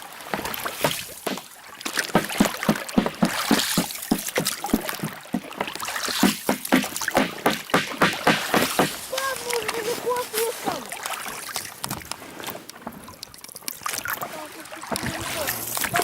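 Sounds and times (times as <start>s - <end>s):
water splashing around rowboat: 0.0s - 16.0s.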